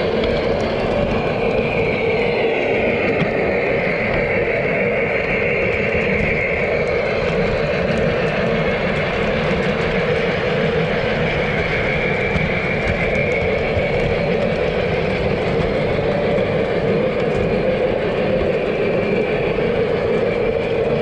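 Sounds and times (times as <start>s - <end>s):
model train motor hum: 0.0s - 21.0s.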